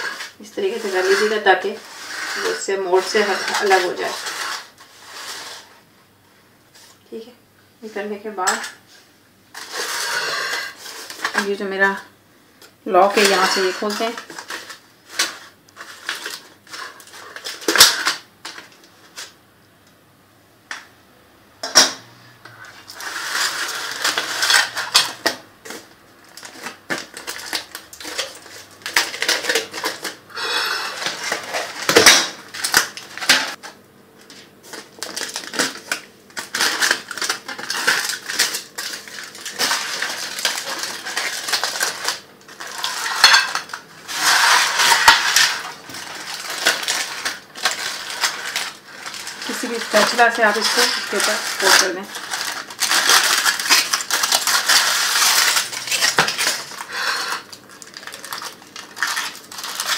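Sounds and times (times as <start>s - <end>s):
aluminium foil crinkling: 0.0s - 5.8s, 9.5s - 12.0s, 12.8s - 19.4s, 22.6s - 59.9s.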